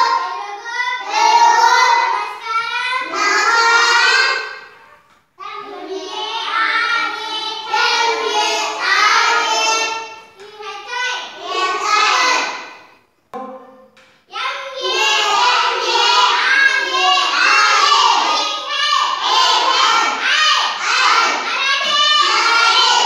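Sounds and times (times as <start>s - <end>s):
children chanting sing-song: 0.0s - 13.0s, 14.3s - 23.0s.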